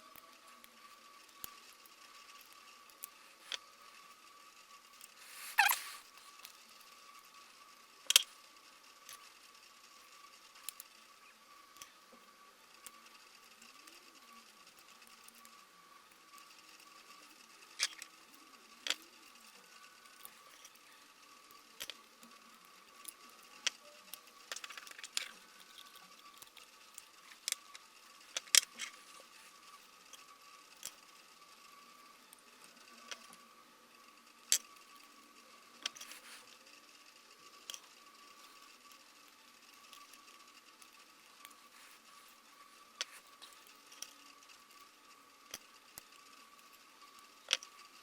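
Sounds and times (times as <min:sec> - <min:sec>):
faint high whine: 0:00.0 - 0:48.0.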